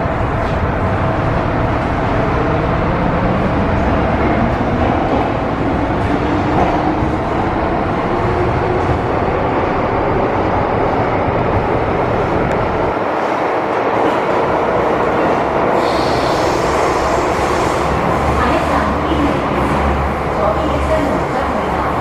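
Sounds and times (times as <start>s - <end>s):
higher train tone: 0.0s - 22.0s
train wheels rumbling on rails: 0.0s - 22.0s.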